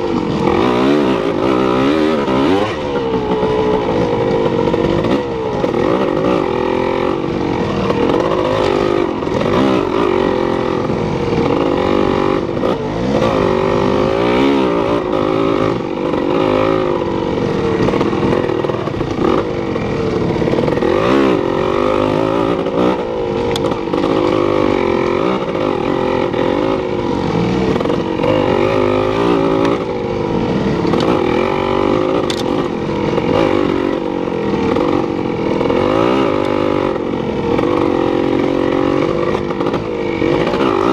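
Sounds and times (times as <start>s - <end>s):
engine revving up and down: 0.0s - 40.9s.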